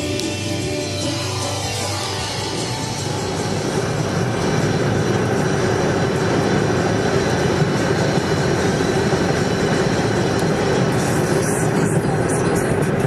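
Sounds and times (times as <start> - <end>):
tyres on pavement road noise: 0.0 - 13.0.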